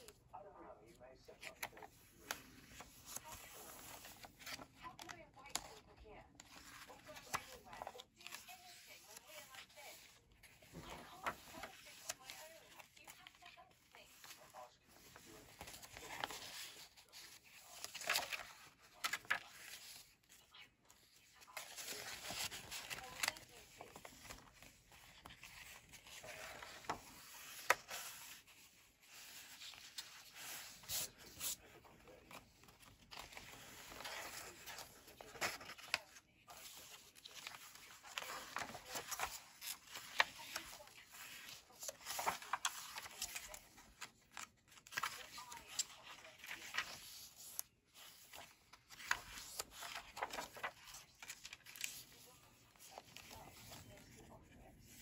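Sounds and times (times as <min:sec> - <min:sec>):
paper pages rustling: 0:00.0 - 0:55.0.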